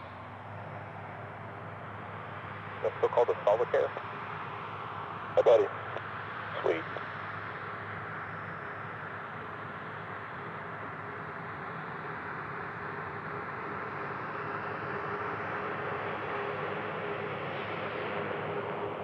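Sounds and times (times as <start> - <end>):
aircraft turbine engines running: 0.0 - 19.0.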